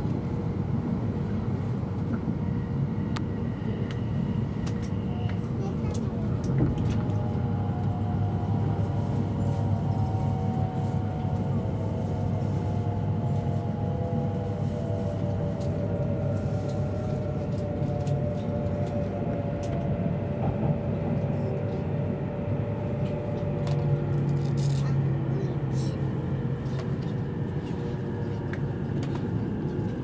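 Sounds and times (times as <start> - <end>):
low train cabin rumble: 0.0 - 30.0.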